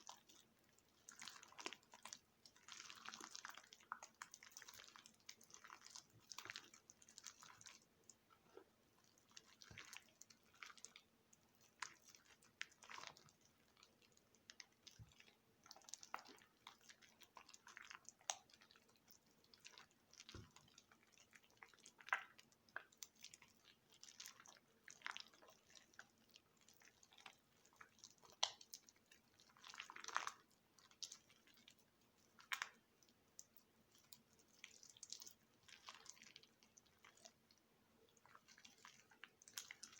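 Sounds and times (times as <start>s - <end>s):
wet soap squelching and crunching: 0.0s - 39.9s.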